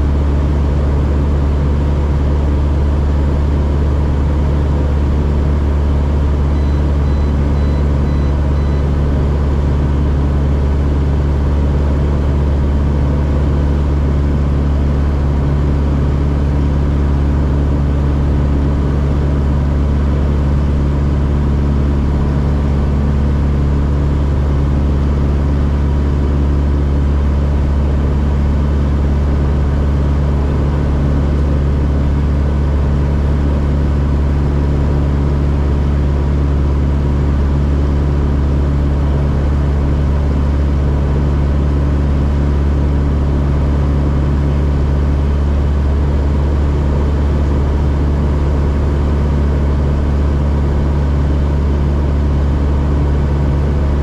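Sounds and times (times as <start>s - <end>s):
aircraft engine and propeller droning: 0.0s - 54.0s.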